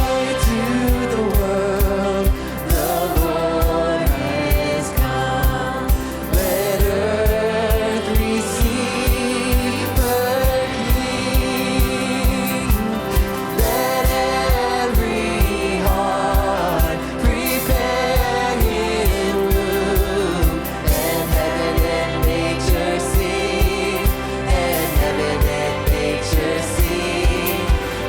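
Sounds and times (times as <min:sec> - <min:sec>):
worship band and singers: 0:00.0 - 0:28.0.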